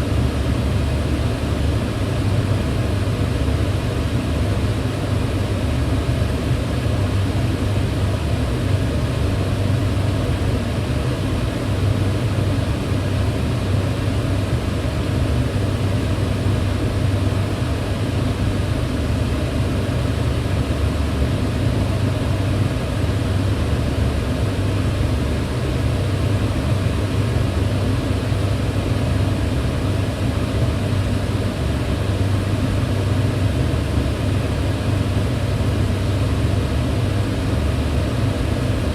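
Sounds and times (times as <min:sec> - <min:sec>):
range hood fan running: 0:00.0 - 0:38.9.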